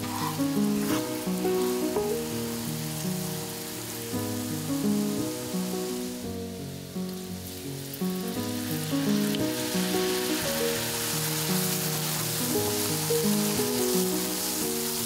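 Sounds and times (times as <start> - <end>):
background music with held notes: 0.0 - 15.0
oil sizzling in a pan: 0.0 - 15.0.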